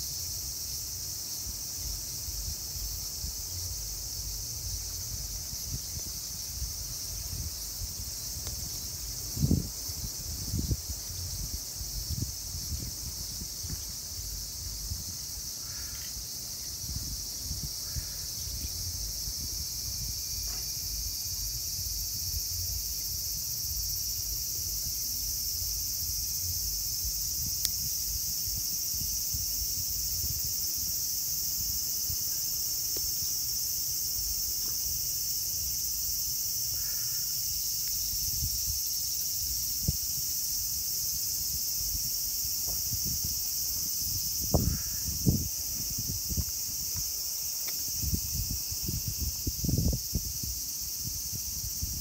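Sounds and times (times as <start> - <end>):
insects buzzing: 0.0 - 52.0.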